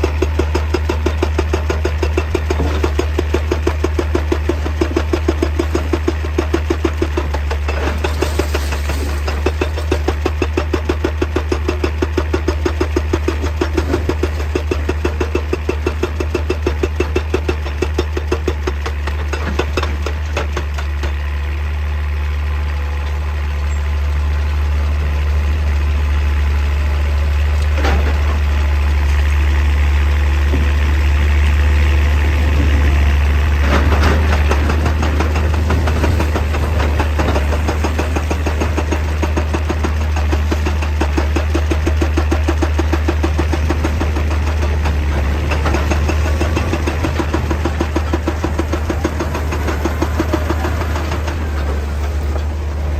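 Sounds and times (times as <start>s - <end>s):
diesel engine rumbling: 0.0s - 52.9s.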